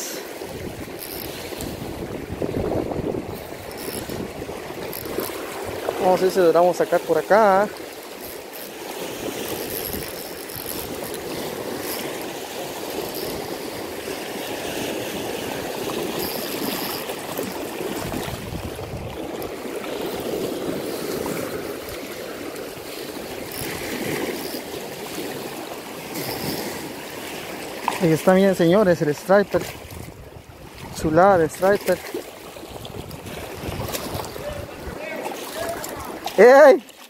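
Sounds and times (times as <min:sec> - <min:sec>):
water splashing and churning: 0:00.0 - 0:37.0.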